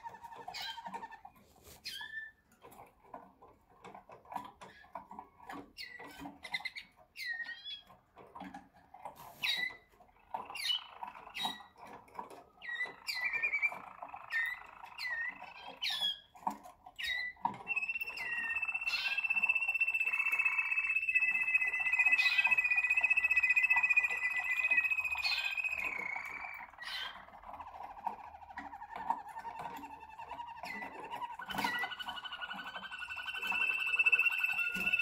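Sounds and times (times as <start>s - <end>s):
canaries rolling warble: 0.0s - 35.0s
canaries whistling: 0.0s - 35.0s.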